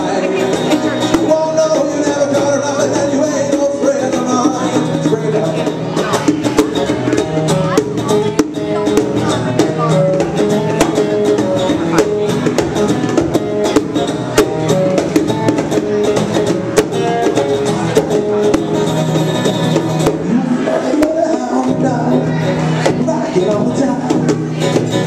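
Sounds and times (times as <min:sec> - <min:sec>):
acoustic guitar strumming: 0:00.0 - 0:25.0
bongos played by hand: 0:00.0 - 0:25.0.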